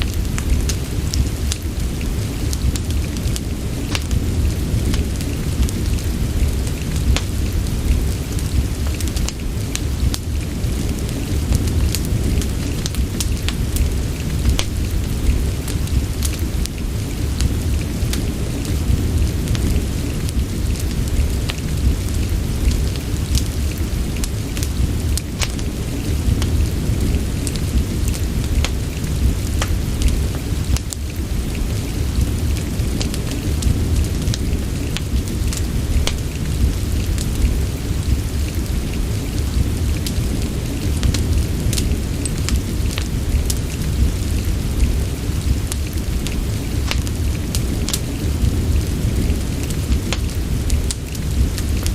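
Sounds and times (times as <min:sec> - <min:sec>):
fire crackling: 0:00.0 - 0:51.9
low rumble: 0:00.0 - 0:51.9
rain hiss: 0:00.0 - 0:51.9.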